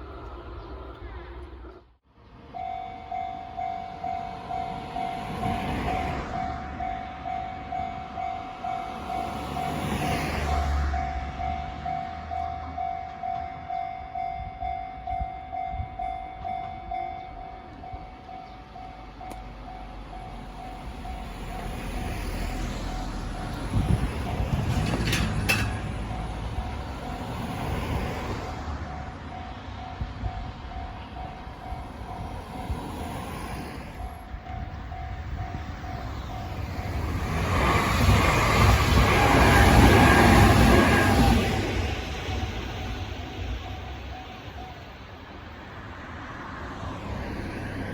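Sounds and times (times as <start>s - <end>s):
train rumble: 0.0s - 47.9s
level crossing warning bell: 2.5s - 28.2s, 28.8s - 45.6s.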